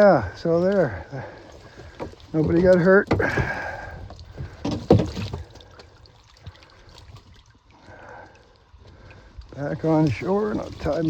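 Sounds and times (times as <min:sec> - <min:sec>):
water sloshing around boat: 0:00.0 - 0:11.0.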